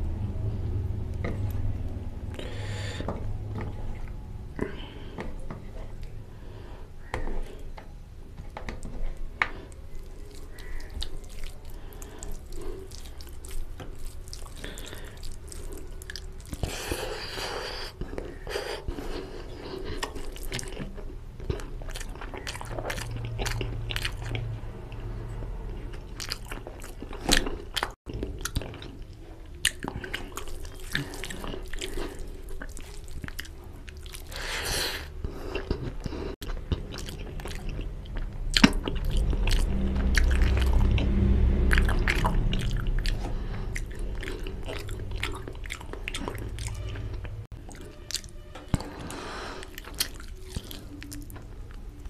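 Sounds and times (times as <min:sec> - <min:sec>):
wet chewing and mouth smacks: 0:08.8 - 0:25.1, 0:25.7 - 0:52.0.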